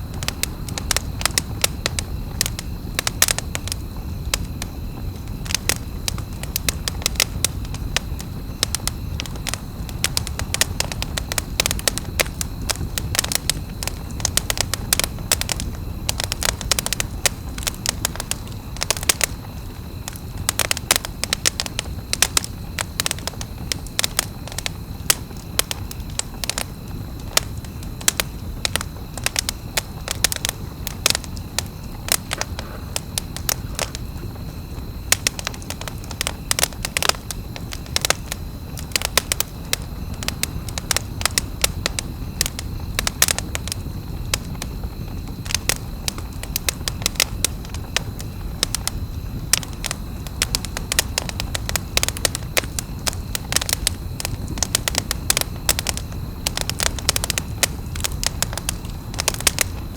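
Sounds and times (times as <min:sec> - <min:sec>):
campfire crackling and popping: 0:00.0 - 0:59.9
low rumble of burning fire: 0:00.0 - 0:59.9.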